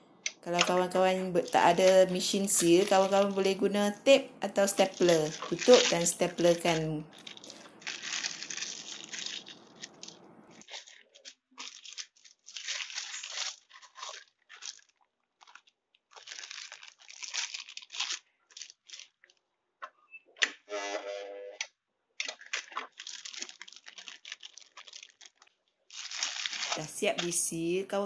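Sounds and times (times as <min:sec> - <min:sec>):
plastic bags crinkling: 0:00.1 - 0:19.5, 0:22.2 - 0:28.0.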